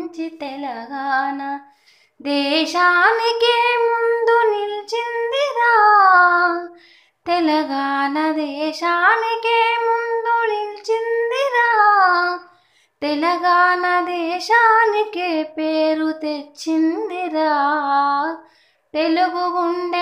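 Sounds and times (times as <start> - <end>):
woman singing unaccompanied: 0.0 - 20.0.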